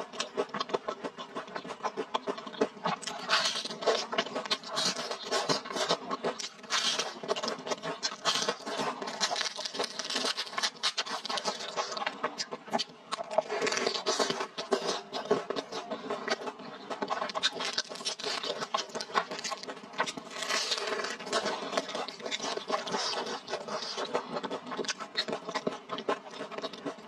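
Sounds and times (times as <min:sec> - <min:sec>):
chewing and wet mouth sounds: 0:00.0 - 0:27.0.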